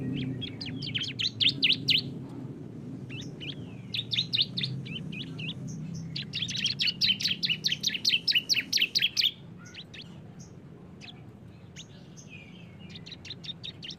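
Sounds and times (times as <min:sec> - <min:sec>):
bird chirping rapidly: 0:00.0 - 0:02.2, 0:03.0 - 0:13.9.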